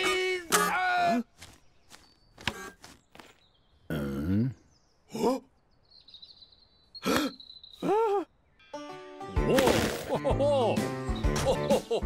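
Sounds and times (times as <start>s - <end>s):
faint birdsong chirps: 0.0s - 9.4s, 10.5s - 11.8s.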